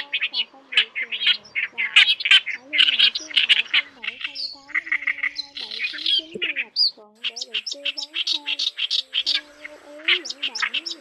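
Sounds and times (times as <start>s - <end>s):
reed warbler song: 0.0s - 11.0s.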